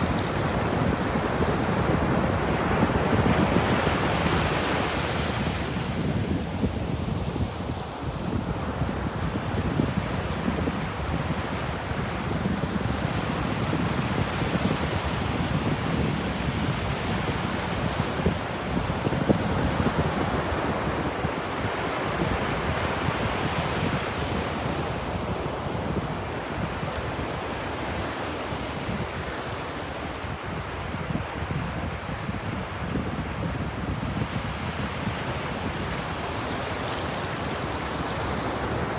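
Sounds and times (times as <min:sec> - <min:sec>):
ocean waves breaking on a beach: 0:00.0 - 0:38.9
wind noise: 0:00.0 - 0:38.9.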